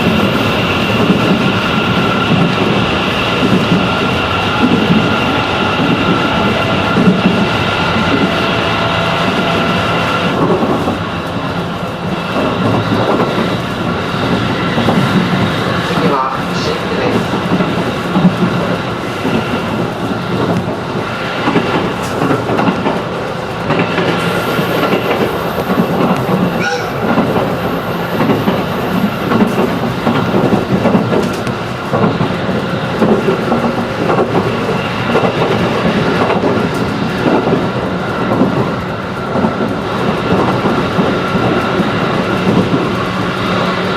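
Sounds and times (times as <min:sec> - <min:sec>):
train wheels and motors rumbling: 0:00.0 - 0:43.9
wheels clicking over track: 0:00.0 - 0:43.9.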